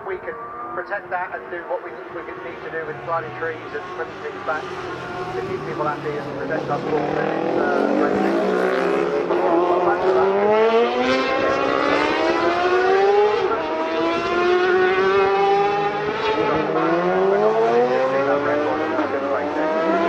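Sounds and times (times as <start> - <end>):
racing motorcycles passing: 0.2 - 20.0.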